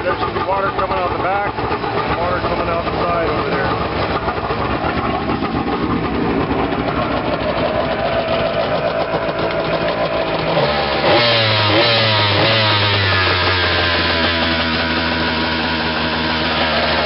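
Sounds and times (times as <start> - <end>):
personal watercraft engine revving: 0.0 - 17.0.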